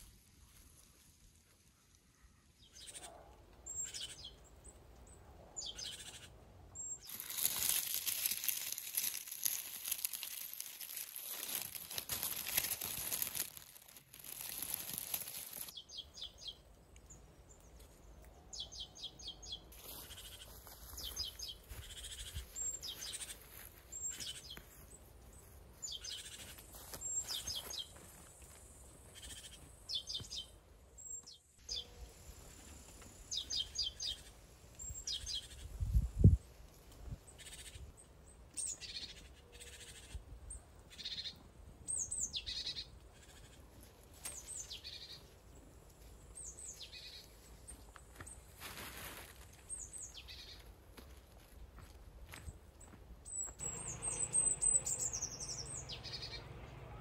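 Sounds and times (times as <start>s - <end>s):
outdoor ambience: 0.0s - 57.0s
small birds chirping: 0.5s - 28.2s, 28.8s - 48.6s, 49.6s - 50.7s, 52.8s - 56.8s.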